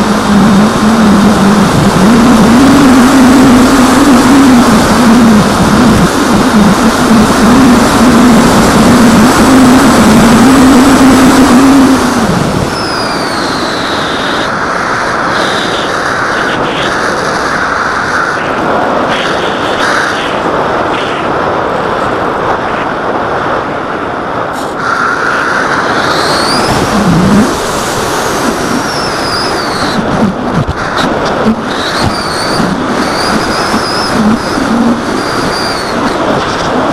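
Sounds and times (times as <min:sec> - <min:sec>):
faint high whines: 0:00.0 - 0:36.9
rushing wind: 0:00.0 - 0:36.9.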